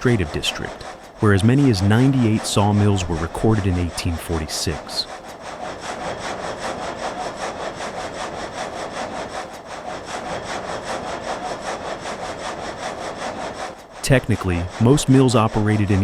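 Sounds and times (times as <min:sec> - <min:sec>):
saw blade rasping through wood: 0:00.0 - 0:16.0.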